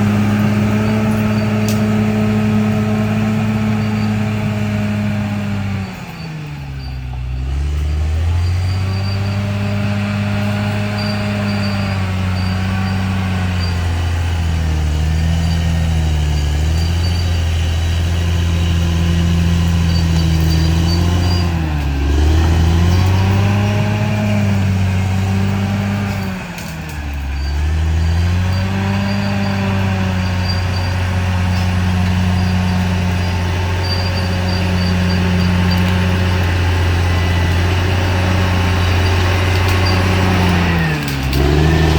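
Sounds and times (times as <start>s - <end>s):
bulldozer diesel engine under load: 0.0s - 41.9s.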